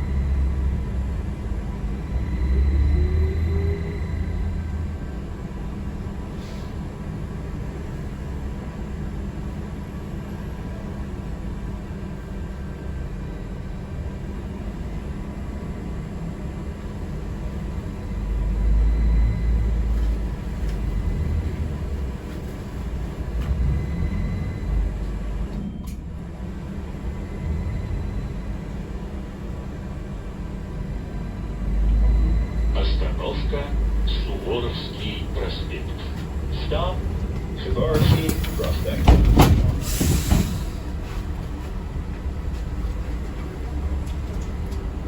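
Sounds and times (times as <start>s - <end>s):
transit vehicle rumble: 0.0s - 45.0s.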